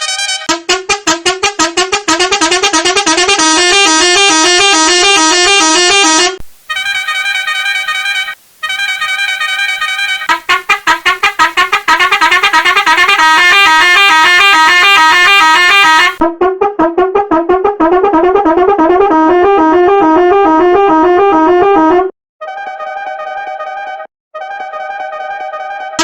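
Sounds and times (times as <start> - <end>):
horn playing fast tune: 0.0 - 26.0.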